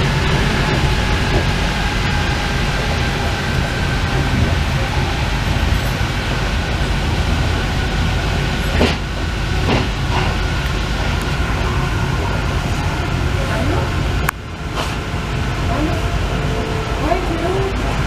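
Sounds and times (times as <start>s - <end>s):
train running with rumble and whine: 0.0s - 18.0s.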